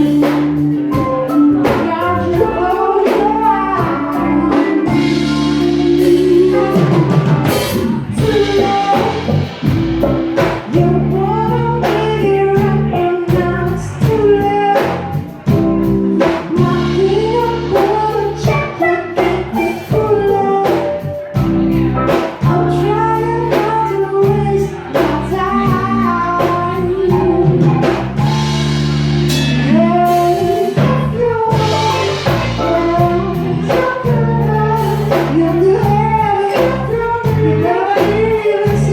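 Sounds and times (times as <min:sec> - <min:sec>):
drum kit beat: 0:00.0 - 0:38.9
guitar: 0:00.0 - 0:38.9
live band playing: 0:00.0 - 0:38.9
person singing: 0:00.0 - 0:38.9.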